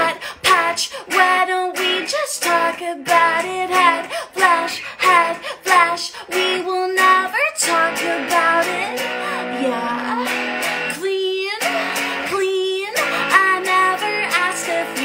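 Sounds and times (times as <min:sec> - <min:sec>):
strummed electric guitar: 0:00.0 - 0:15.0
woman singing: 0:00.0 - 0:15.0.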